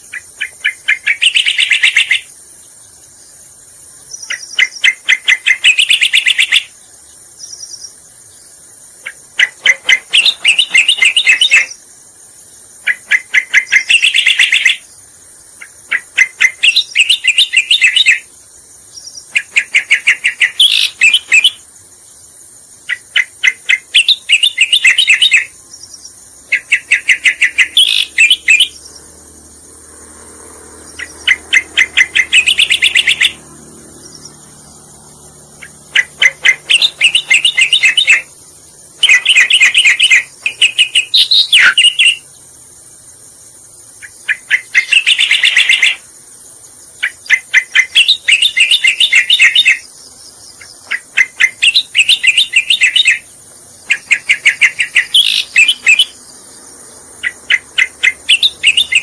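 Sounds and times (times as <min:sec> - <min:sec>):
bird song of sharp repeated notes: 0:00.0 - 0:59.0
high insect buzz: 0:00.0 - 0:59.0.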